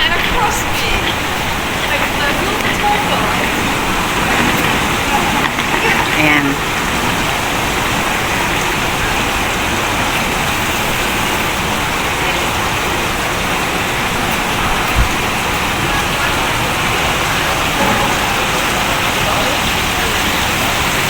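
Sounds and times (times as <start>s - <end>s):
steady rain-like hiss: 0.0s - 21.0s.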